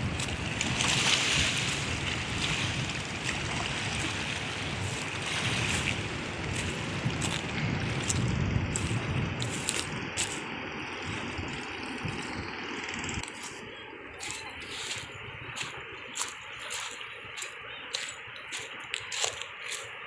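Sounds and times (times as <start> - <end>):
small waves washing on shore: 0.0 - 20.0
wind rumbling on microphone: 0.0 - 20.0
footsteps on shell gravel: 2.4 - 12.4, 13.2 - 20.0.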